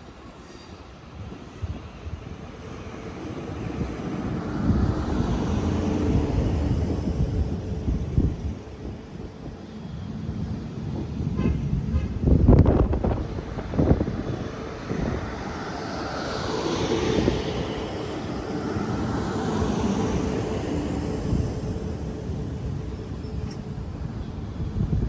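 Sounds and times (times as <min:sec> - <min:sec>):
train passing rumble: 0:00.0 - 0:25.0
wind on microphone: 0:01.0 - 0:25.0.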